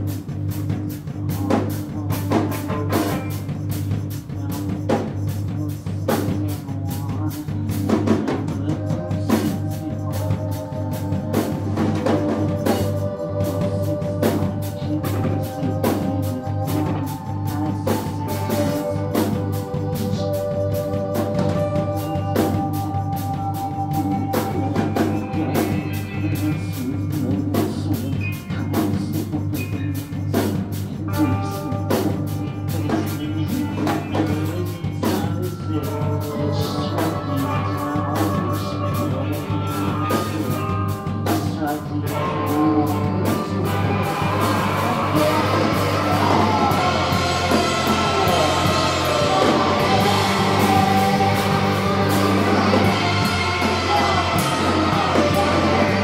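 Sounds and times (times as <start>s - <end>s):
drum kit beat: 0.0s - 56.0s
person singing: 0.0s - 56.0s
rock band playing: 0.0s - 56.0s.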